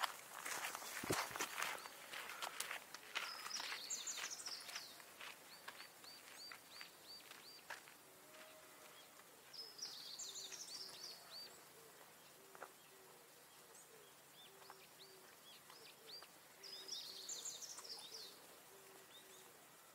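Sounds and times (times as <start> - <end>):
bird chirps: 3.1 - 7.8, 8.4 - 19.9.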